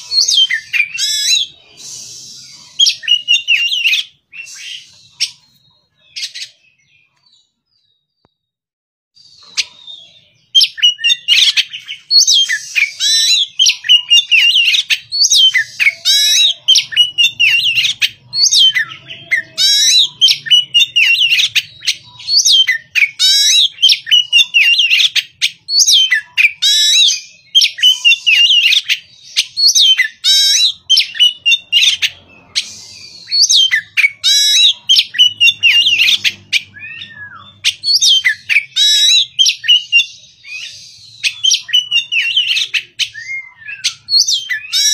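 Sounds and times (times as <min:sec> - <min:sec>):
bird singing whistles and chirps: 0:00.0 - 0:08.4, 0:09.2 - 0:44.9.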